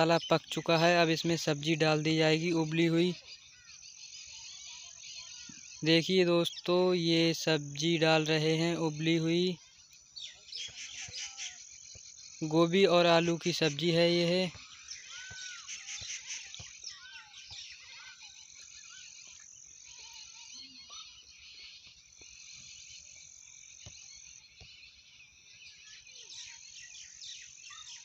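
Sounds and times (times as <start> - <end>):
faint high chirps: 0.0 - 28.0.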